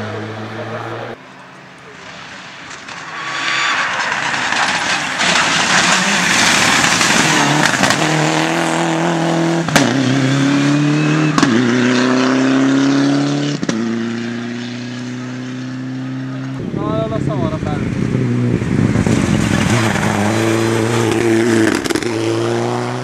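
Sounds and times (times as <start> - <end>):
rally car engine at full throttle: 0.0 - 23.0
road noise: 0.0 - 23.0.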